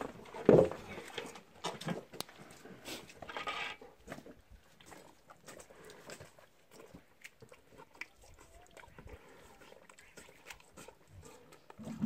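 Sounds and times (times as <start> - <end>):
water buffaloes chewing feed: 0.0 - 12.0.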